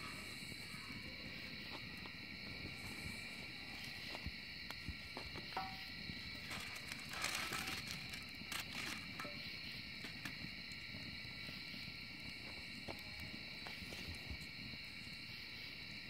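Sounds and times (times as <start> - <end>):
crickets chirring: 0.0 - 16.0
wood fire crackling and popping: 0.1 - 16.0.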